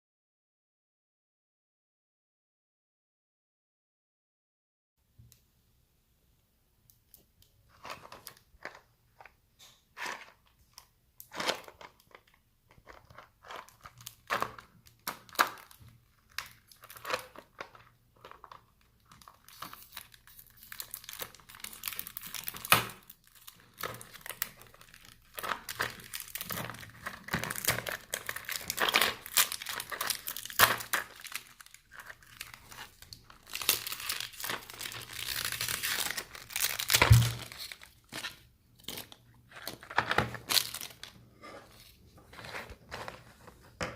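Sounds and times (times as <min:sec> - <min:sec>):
wrapping crinkling and tearing: 0:07.1 - 0:43.8
gum packaging rustling: 0:07.1 - 0:43.9.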